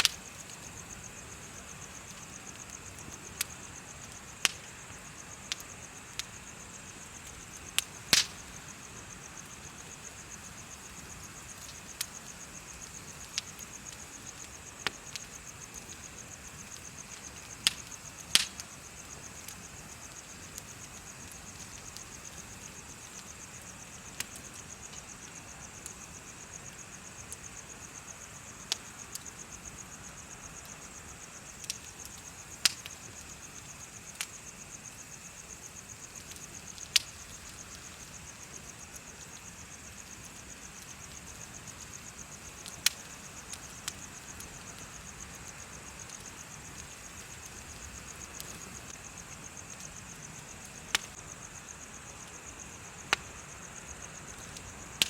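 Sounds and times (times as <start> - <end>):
bonfire crackling and popping: 0.0 - 55.0
insects chirping: 0.0 - 55.0.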